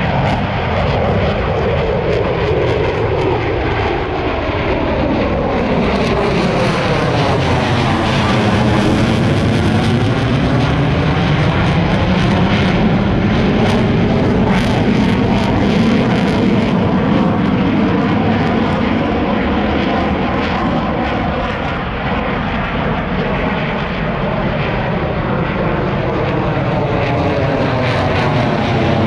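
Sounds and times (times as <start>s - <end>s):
military aircraft flying past: 0.0s - 29.0s.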